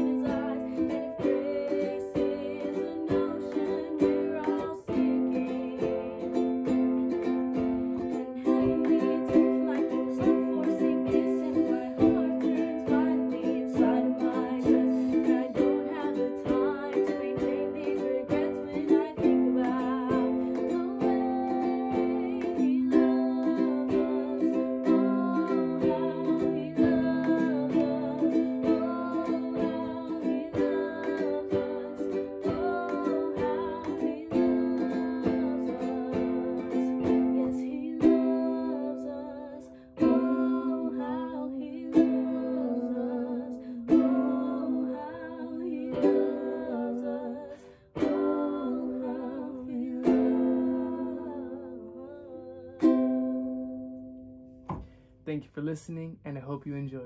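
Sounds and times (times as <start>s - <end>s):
person singing: 0.0s - 53.4s
ukulele strumming chords: 0.0s - 56.1s.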